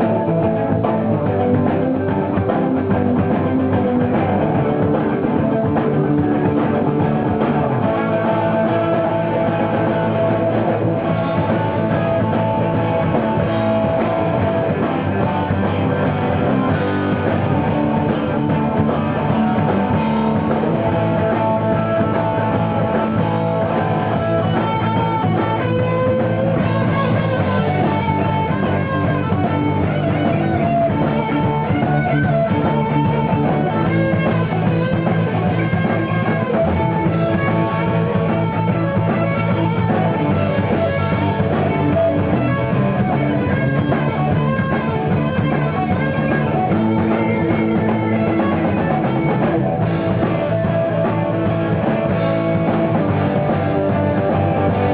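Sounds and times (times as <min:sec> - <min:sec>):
live rock band instrumental: 0:00.0 - 0:54.9
sliding guitar lead: 0:00.0 - 0:54.9.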